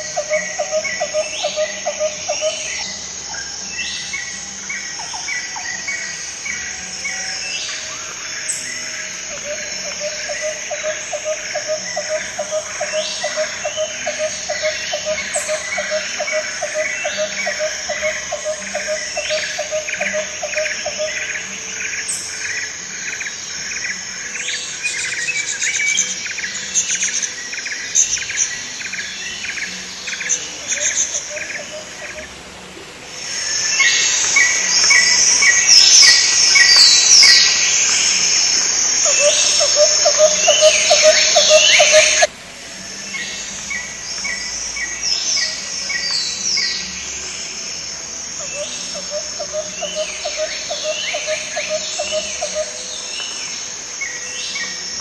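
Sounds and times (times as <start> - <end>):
birds calling and chirping: 0.0 - 42.3, 43.0 - 55.0
high insect drone: 0.0 - 55.0.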